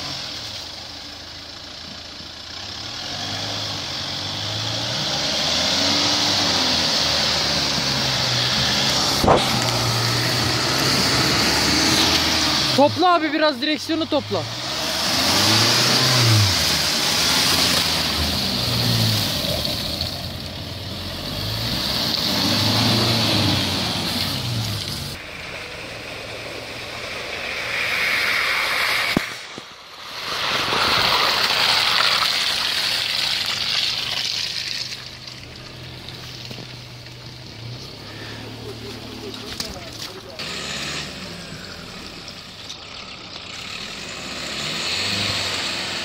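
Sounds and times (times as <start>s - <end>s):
engine revving: 2.5s - 46.0s.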